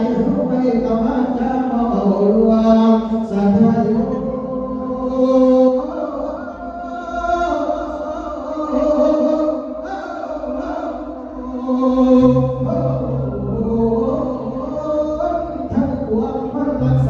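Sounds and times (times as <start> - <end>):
person chanting a sung sermon: 0.0 - 17.0.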